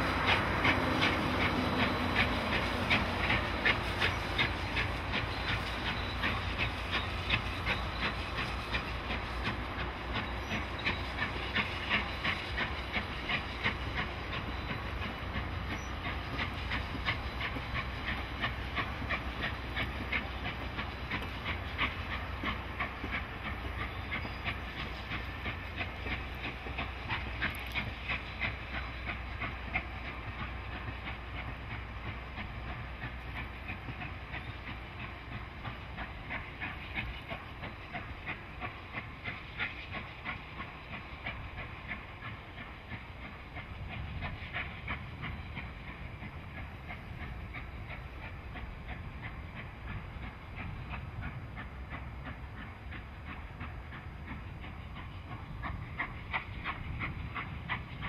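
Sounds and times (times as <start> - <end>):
steam hissing: 0.0 - 58.0
wheels clicking on rails: 0.0 - 58.0.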